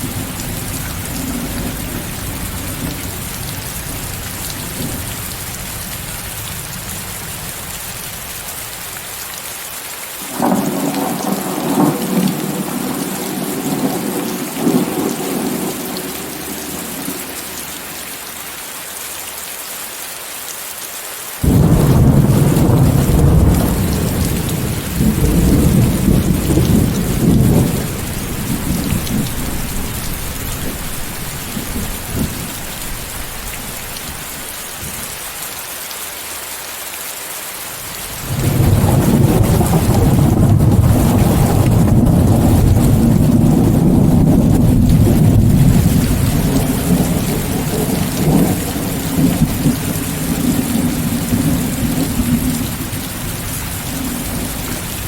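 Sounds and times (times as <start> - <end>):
rolling thunder: 0.0 - 7.1, 10.3 - 18.0, 21.4 - 35.0, 38.2 - 55.0
heavy rain: 0.0 - 55.0.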